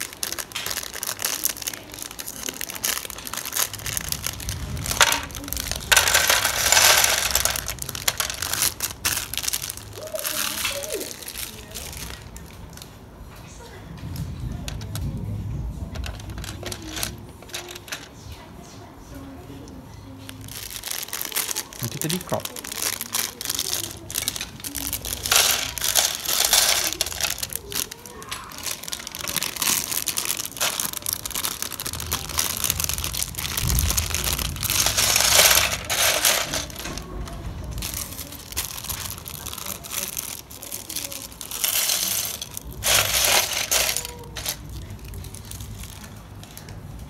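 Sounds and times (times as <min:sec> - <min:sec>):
plastic bricks clattering into box: 0:00.0 - 0:12.4, 0:15.8 - 0:18.1, 0:20.3 - 0:46.1
plastic bag crinkling: 0:00.0 - 0:13.0, 0:15.8 - 0:18.4, 0:20.1 - 0:46.9.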